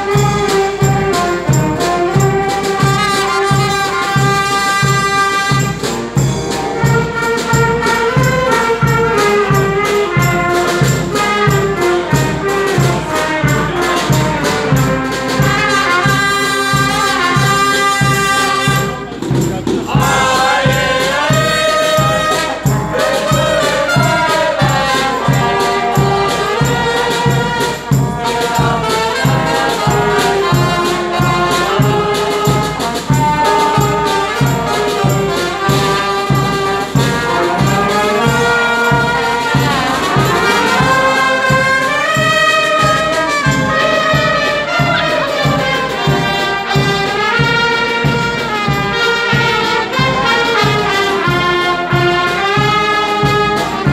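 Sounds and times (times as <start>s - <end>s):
brass band playing lively tune: 0.0s - 53.9s.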